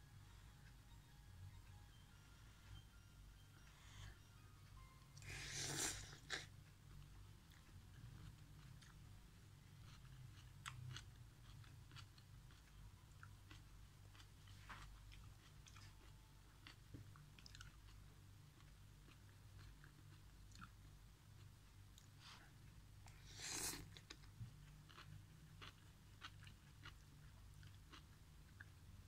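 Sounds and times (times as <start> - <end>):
low steady hum: 0.0 - 29.0
quiet chewing: 5.2 - 28.9.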